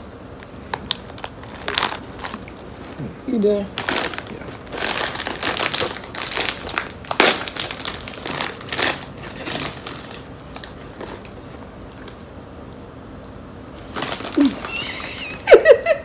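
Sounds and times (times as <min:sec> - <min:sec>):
plastic bag crinkling: 0:00.4 - 0:12.3, 0:13.8 - 0:15.6.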